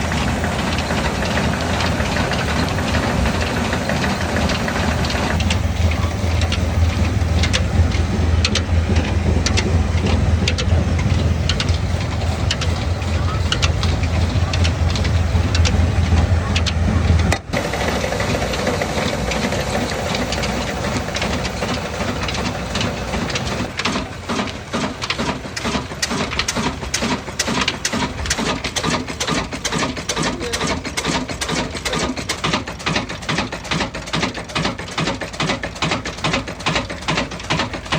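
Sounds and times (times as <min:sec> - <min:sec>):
diesel engine knocking: 0:00.0 - 0:37.9.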